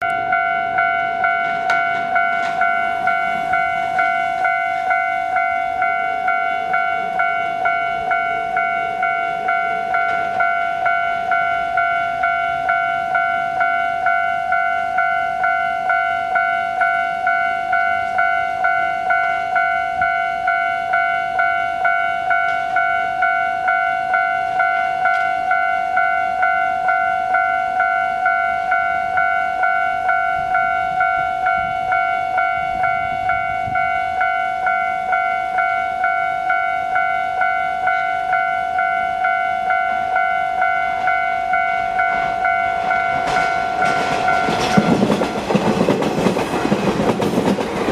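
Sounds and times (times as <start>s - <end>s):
level crossing warning bell: 0.0s - 47.9s.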